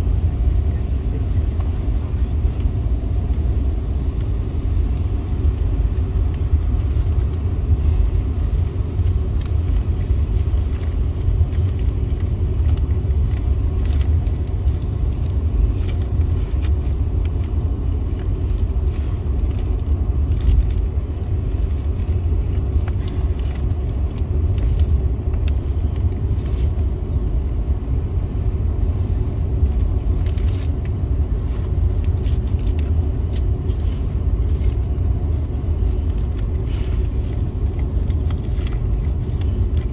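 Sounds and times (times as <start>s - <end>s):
road and tyre noise in car: 0.0s - 39.9s.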